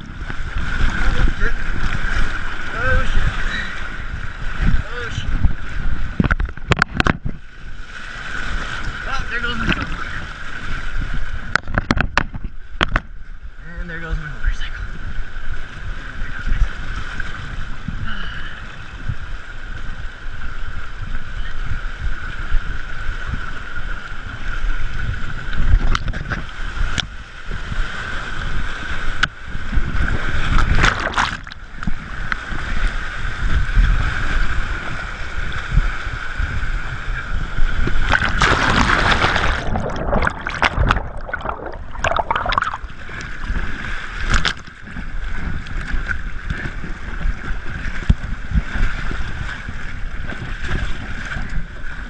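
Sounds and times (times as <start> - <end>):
floodwater rushing and churning: 0.0 - 52.0
wind buffeting on microphone: 0.0 - 52.0.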